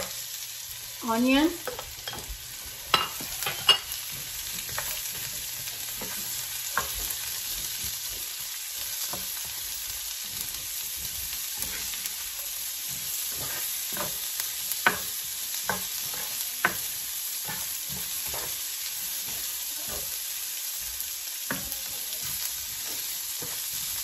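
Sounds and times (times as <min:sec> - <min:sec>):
food sizzling in a pan: 0:00.0 - 0:24.0
spatula scraping and knocking pan: 0:01.4 - 0:24.0.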